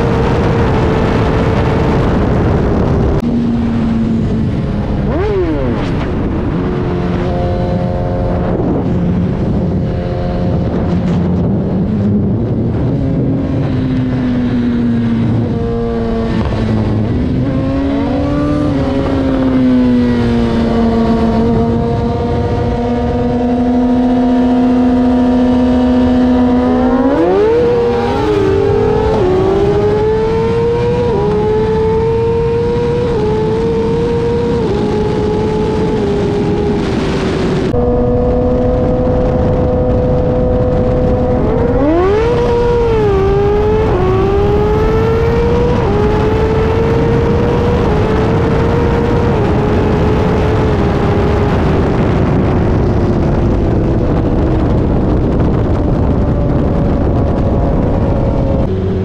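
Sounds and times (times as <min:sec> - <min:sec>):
motorcycle engine revving through gears: 0:00.0 - 0:59.0
wind rush: 0:00.0 - 0:59.0.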